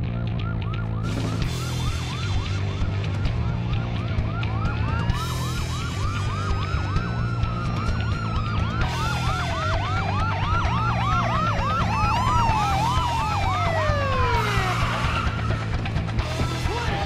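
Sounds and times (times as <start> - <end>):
police sirens yelping and wailing: 0.0 - 17.0.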